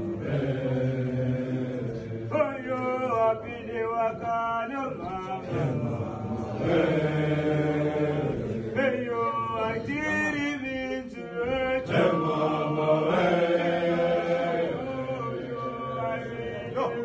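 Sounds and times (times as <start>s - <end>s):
young men chanting in a group: 0.0s - 17.0s.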